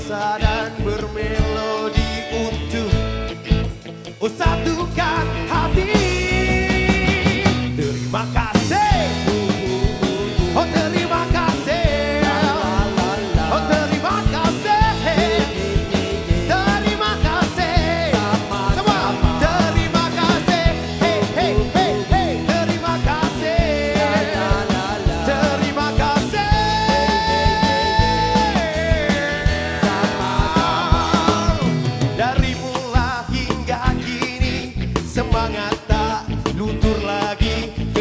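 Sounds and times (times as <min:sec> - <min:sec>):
lead electric guitar melody: 0:00.0 - 0:36.8
live pop-rock band playing: 0:00.0 - 0:38.0.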